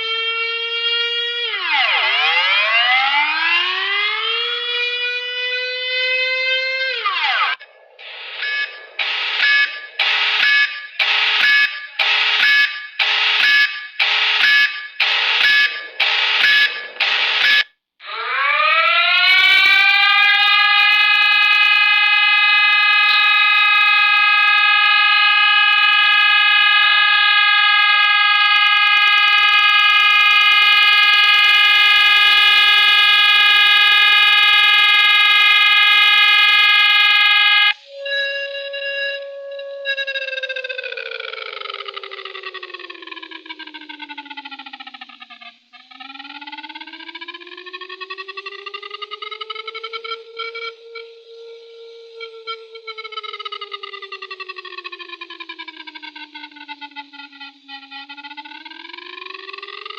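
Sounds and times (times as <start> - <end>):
lower siren tone: 0.0 - 59.9
siren pulsing and winding up: 0.0 - 59.9.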